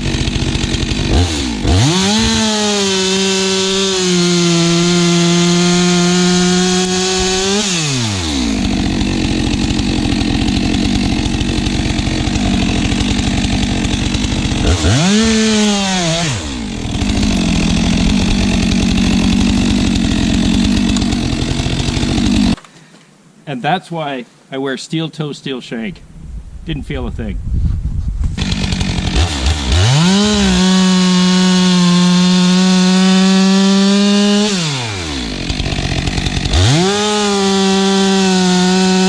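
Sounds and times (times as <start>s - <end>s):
chainsaw cutting log: 0.0s - 22.7s, 28.4s - 39.0s.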